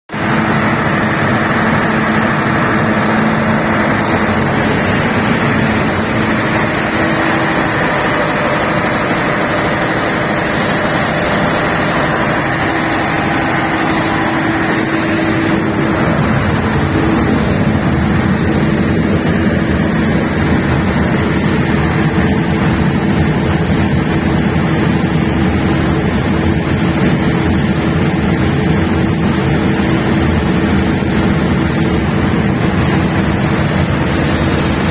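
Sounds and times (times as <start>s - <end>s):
diesel generator running: 0.1s - 34.9s.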